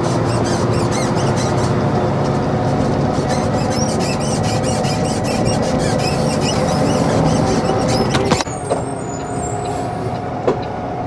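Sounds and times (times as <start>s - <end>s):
short high squeaks: 0.0s - 10.1s
diesel truck engine running: 0.0s - 11.0s
road noise: 0.0s - 11.0s.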